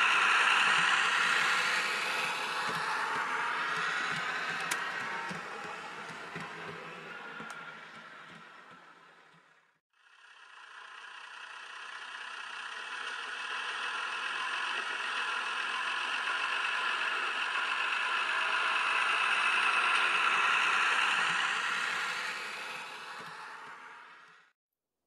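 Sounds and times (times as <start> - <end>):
wheels rattling over rails: 0.0 - 9.8, 11.1 - 24.4
model locomotive motor whirring: 0.0 - 24.5.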